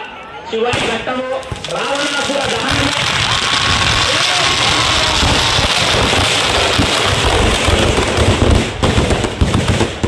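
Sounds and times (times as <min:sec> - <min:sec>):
firecrackers crackling and popping: 0:00.8 - 0:10.0.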